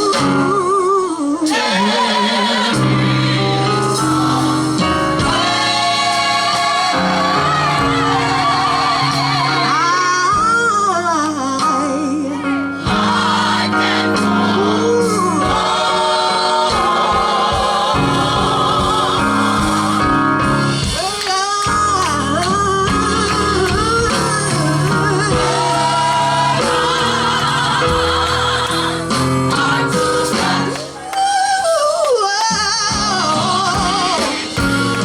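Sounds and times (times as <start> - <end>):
lead voice singing with vibrato: 0.0 - 35.0
backing voices singing: 1.2 - 35.0.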